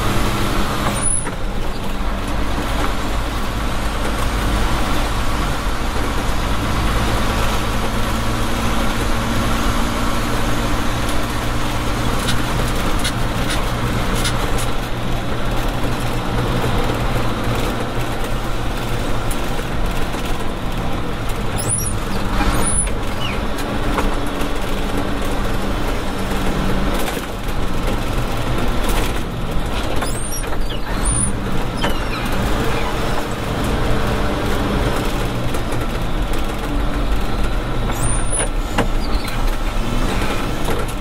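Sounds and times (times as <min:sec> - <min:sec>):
diesel engine running: 0:00.0 - 0:41.0
road and tyre noise: 0:00.0 - 0:41.0.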